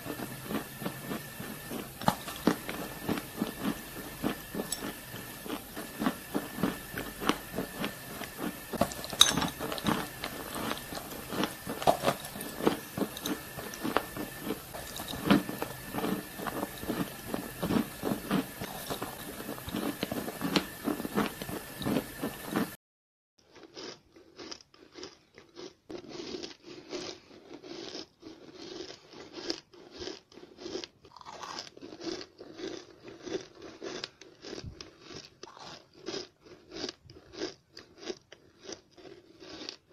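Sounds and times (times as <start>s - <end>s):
crunching and chewing: 0.0s - 22.8s, 23.4s - 39.9s.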